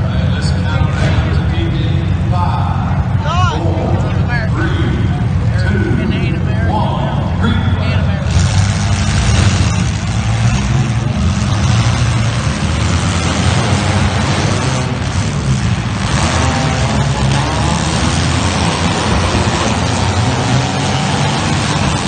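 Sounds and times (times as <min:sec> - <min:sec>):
car engines running: 0:00.0 - 0:22.0.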